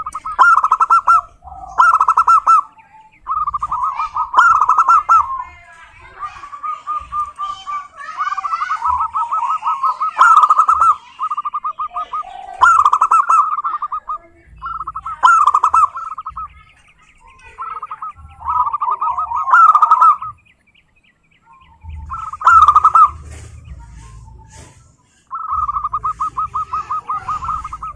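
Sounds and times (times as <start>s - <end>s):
dove cooing: 0.0s - 20.4s, 21.4s - 27.9s.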